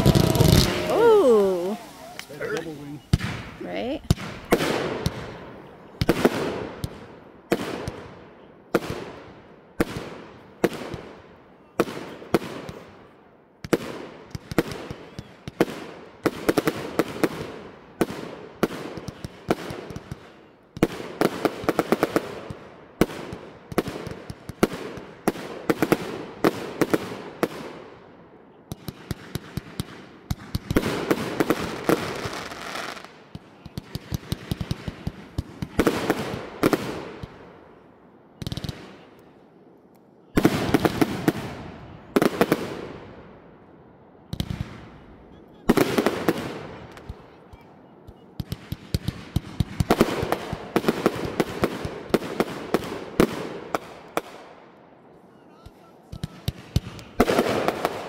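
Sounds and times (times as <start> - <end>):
fireworks crackling and pops: 0.0 - 27.9, 28.7 - 37.5, 38.4 - 43.2, 44.3 - 45.0, 45.6 - 54.5, 55.6 - 58.0
fireworks shots: 0.0 - 37.8, 38.4 - 39.2, 40.3 - 43.4, 44.3 - 54.6, 55.7 - 58.0.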